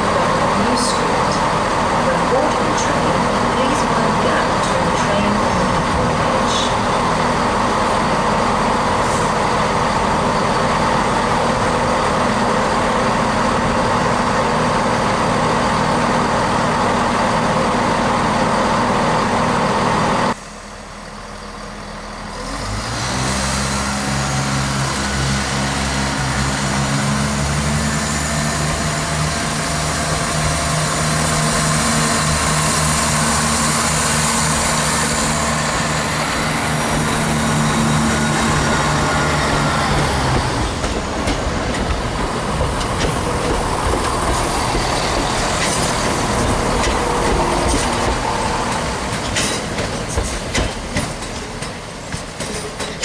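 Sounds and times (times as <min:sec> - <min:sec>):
train diesel engine running: 0:00.0 - 0:53.0
train engine low hum: 0:00.0 - 0:53.0.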